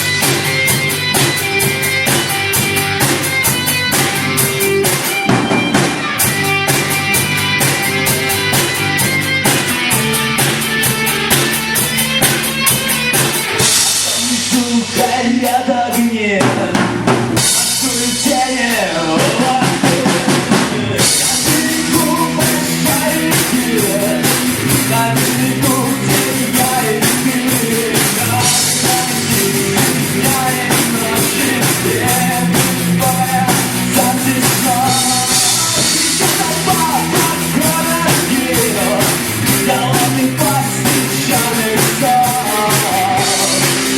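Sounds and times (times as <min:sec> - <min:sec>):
bass guitar: 0:00.0 - 0:43.9
drum kit beat: 0:00.0 - 0:43.9
electric guitar: 0:00.0 - 0:43.9.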